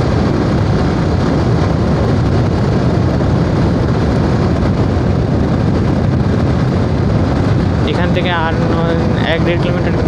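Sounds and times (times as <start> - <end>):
wind noise: 0.0 - 10.0.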